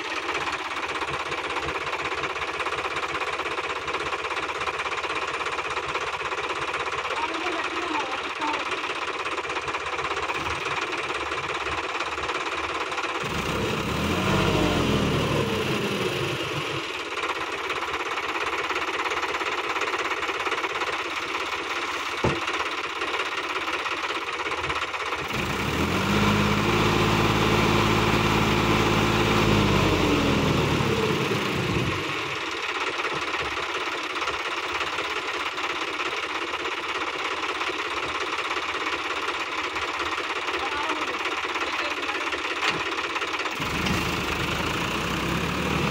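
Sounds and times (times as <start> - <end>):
tractor diesel engine revving: 0.0 - 35.3, 36.8 - 45.9.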